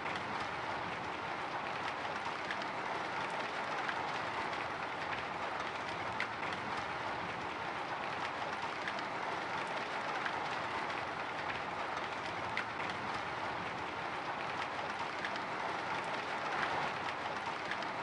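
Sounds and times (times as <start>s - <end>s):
raindrops ticking on glass: 0.1s - 18.0s.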